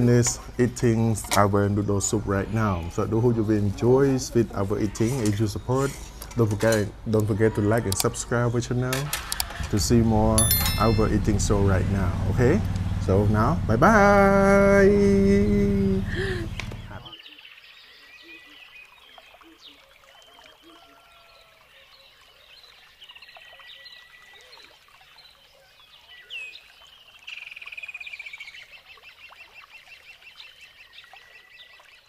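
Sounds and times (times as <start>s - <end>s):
birds calling and chirping: 0.0s - 32.0s.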